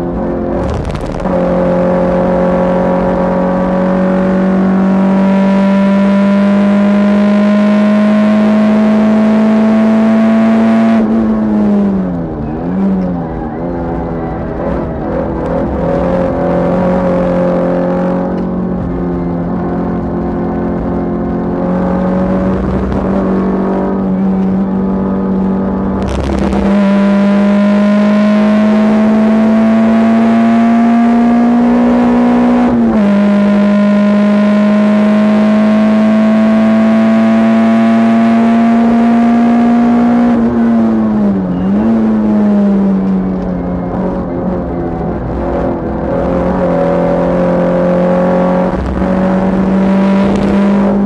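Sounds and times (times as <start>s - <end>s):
car engine revving inside cabin: 0.0s - 51.0s.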